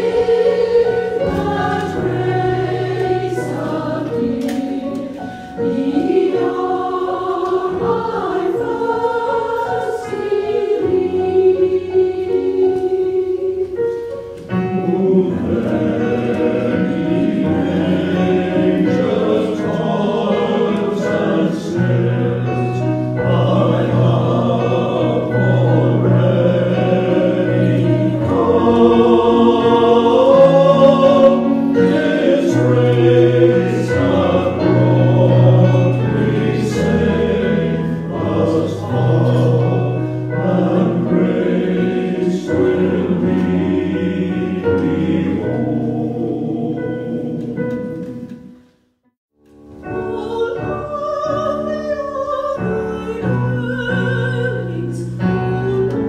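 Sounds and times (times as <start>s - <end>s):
choir singing: 0.0s - 48.7s, 50.0s - 56.0s.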